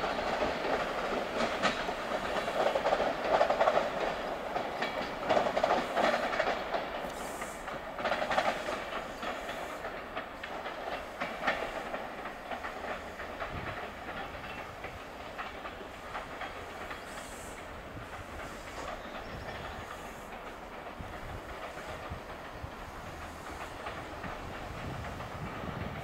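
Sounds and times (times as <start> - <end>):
train wheels clicking over rails: 0.0 - 26.0.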